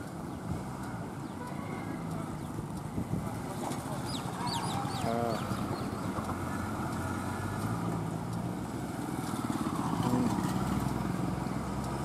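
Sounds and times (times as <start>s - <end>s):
motorcycles passing: 0.0s - 12.0s
truck diesel engine running: 0.0s - 12.0s.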